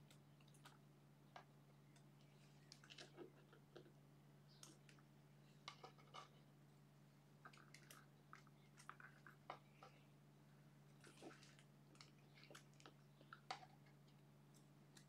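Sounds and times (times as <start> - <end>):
faint clicks and scratches: 0.0 - 6.6, 7.3 - 10.2, 10.8 - 15.0.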